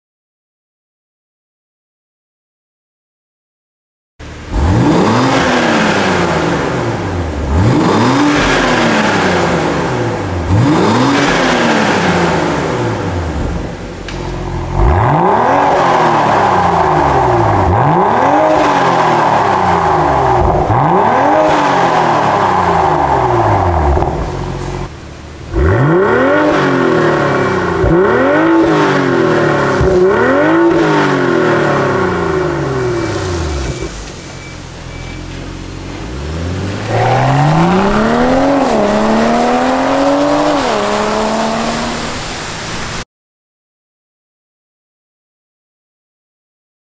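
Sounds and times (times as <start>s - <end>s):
car engine revving: 4.2s - 43.0s.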